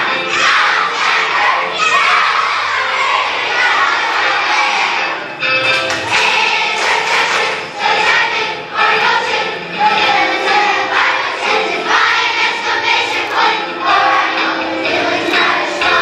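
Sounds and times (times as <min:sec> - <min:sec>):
children singing together: 0:00.0 - 0:16.0
musical accompaniment: 0:00.0 - 0:16.0.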